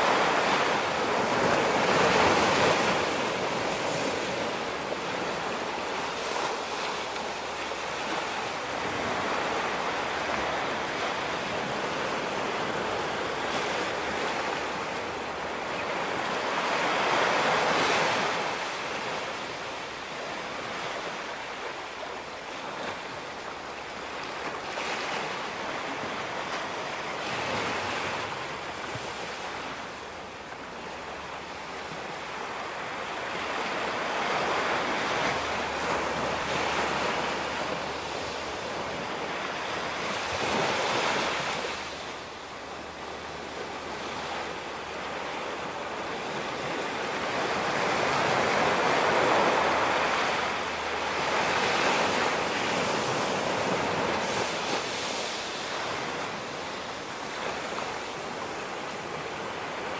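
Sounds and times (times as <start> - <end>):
waves washing up a sandy beach: 0.0 - 59.9.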